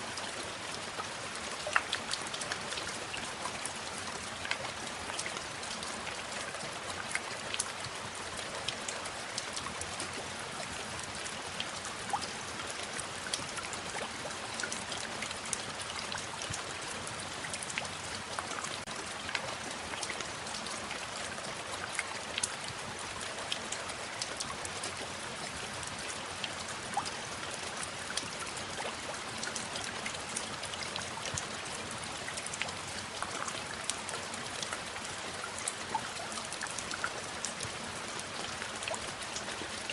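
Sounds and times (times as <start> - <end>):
steady rain: 0.0 - 39.9
raindrops ticking: 0.2 - 39.9.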